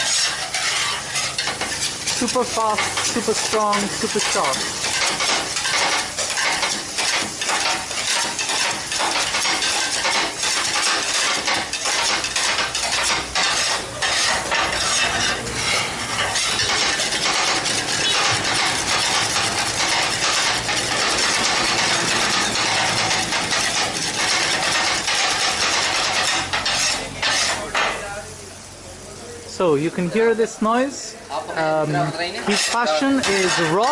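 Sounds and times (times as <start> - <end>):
metal blades clanging on griddle: 0.0 - 28.1, 32.4 - 33.9.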